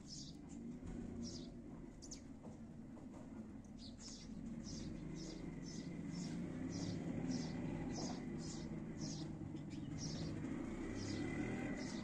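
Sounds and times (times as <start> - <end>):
small bird chirping: 0.0 - 2.4, 3.7 - 12.0.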